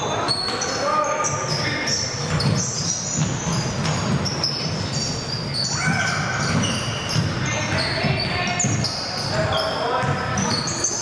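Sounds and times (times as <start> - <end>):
basketballs bouncing on wood floor: 0.0 - 11.0
sneaker squeaks: 0.0 - 11.0.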